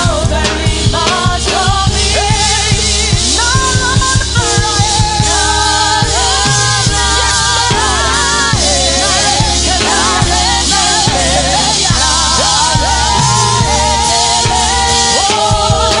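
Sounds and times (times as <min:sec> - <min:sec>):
bass: 0:00.0 - 0:16.0
drums: 0:00.0 - 0:16.0
keyboard: 0:00.0 - 0:16.0
singing voices: 0:00.0 - 0:16.0.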